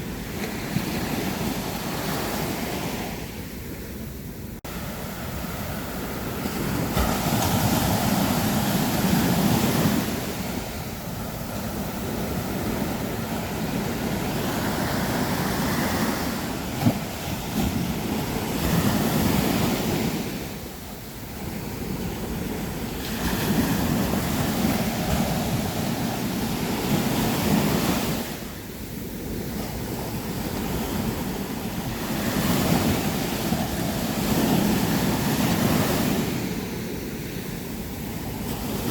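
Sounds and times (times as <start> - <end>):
sea waves breaking on beach: 4.7 - 38.9.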